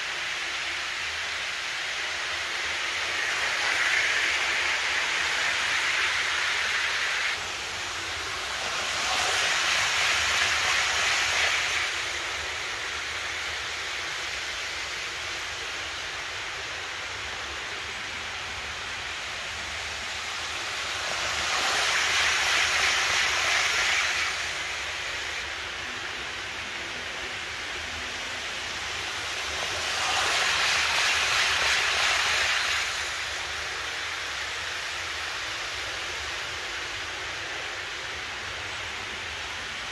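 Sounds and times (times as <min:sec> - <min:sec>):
model trains whirring on track: 0:00.0 - 0:39.9
steady hiss: 0:00.0 - 0:39.9.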